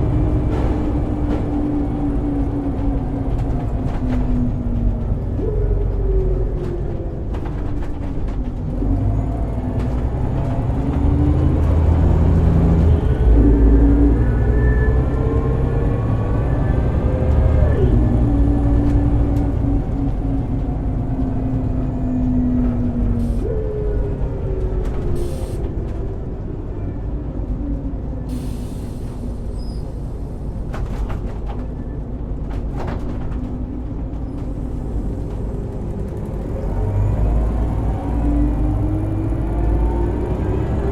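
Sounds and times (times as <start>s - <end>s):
bus transmission whining: 0.0s - 40.9s.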